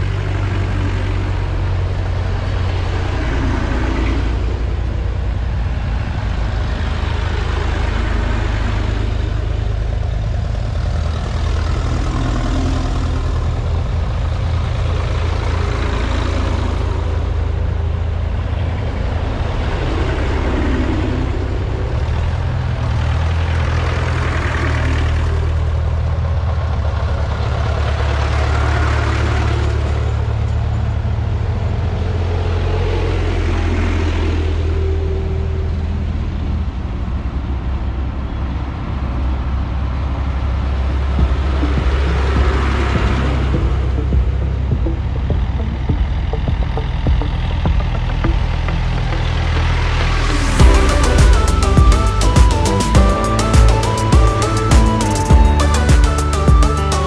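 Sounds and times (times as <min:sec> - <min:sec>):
tractors driving past: 0:00.0 - 0:57.0.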